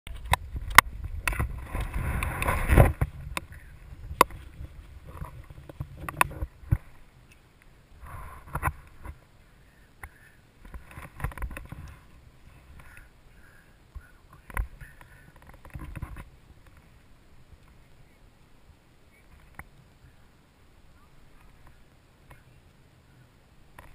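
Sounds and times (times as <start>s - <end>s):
wind rumble on microphone: 0.1s - 23.9s.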